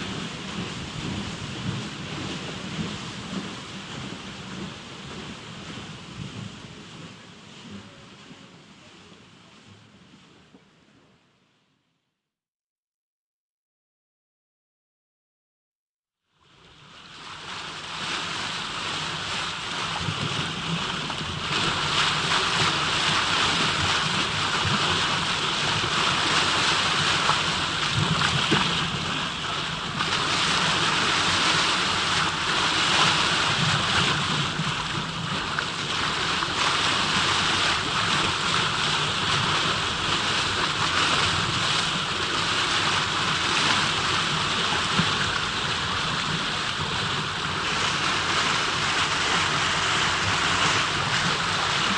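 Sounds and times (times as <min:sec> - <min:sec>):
rushing water: 0:00.0 - 0:10.9, 0:16.4 - 0:51.9
low rumble: 0:00.0 - 0:11.0, 0:17.9 - 0:51.9.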